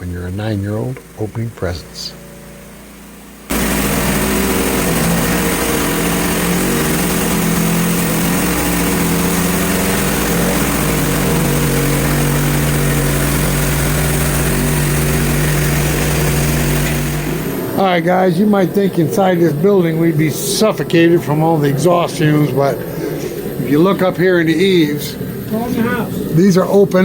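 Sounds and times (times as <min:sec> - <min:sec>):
gas engine under load: 0:00.0 - 0:27.0.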